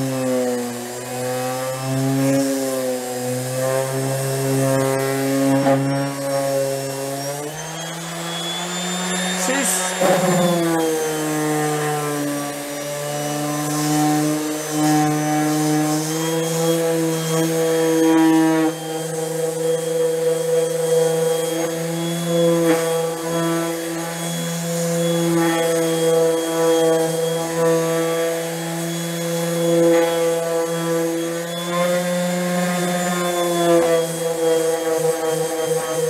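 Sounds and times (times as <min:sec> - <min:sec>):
orbital sander sanding wood: 0:00.0 - 0:35.8.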